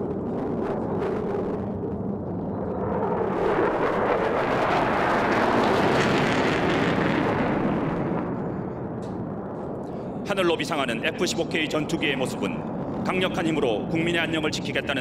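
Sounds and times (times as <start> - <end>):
fighter jet roaring: 0.0 - 15.0.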